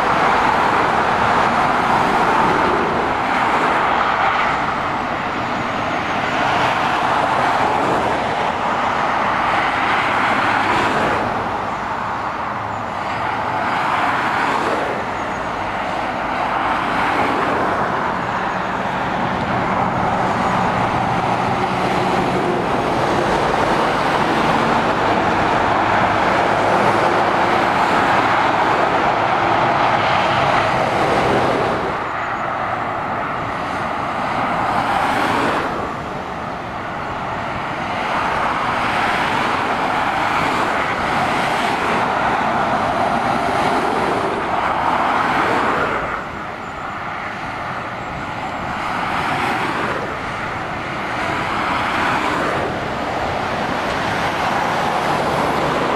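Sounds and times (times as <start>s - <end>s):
diesel lorry engine hum: 0.0s - 55.9s
traffic passing close by: 0.0s - 55.9s.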